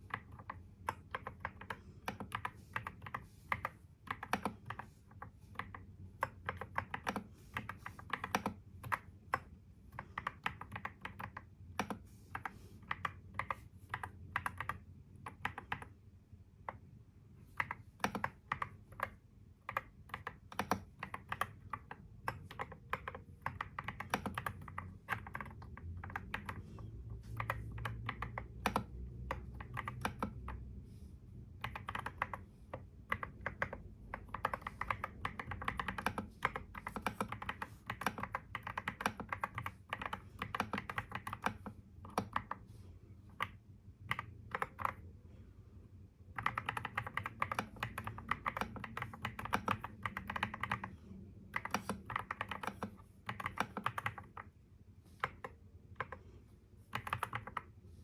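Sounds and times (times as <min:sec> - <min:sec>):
typing on computer keyboard: 0:00.0 - 0:16.0, 0:17.5 - 0:30.8, 0:31.5 - 0:45.1, 0:46.3 - 0:57.8
low steady hum: 0:00.0 - 0:58.0.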